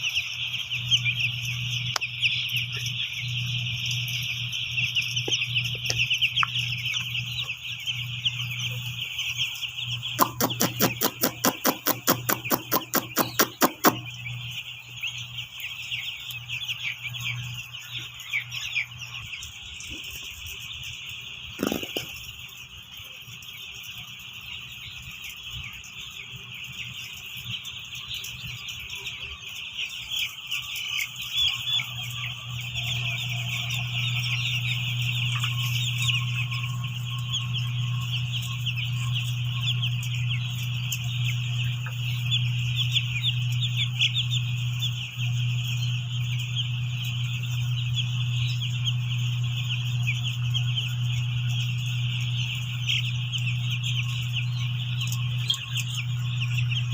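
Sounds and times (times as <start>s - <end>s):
chicks peeping: 0.0s - 56.9s
steady low hum: 0.0s - 56.9s.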